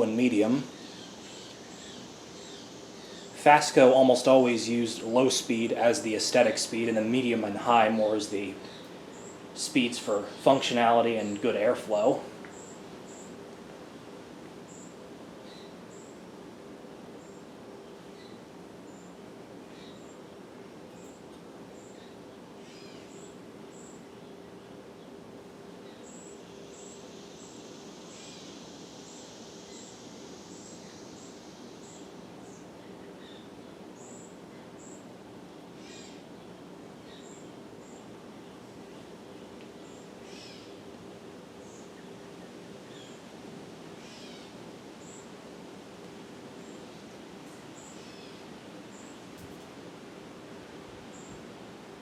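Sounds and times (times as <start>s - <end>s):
ceiling fan motor hum: 0.0s - 52.0s.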